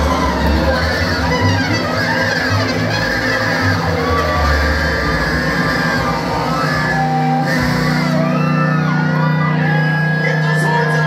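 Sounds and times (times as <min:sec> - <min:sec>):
electric guitar solo: 0:00.0 - 0:11.0.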